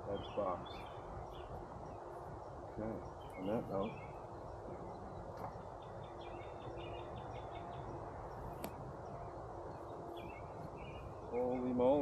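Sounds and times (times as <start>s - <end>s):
honey bees humming: 0.0s - 12.0s
songbird chirping: 0.0s - 12.0s.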